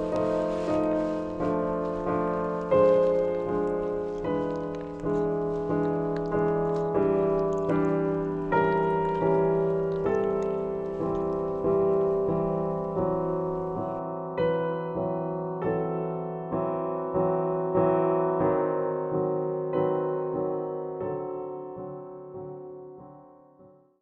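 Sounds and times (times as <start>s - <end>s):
slow solo piano music: 0.0s - 24.0s.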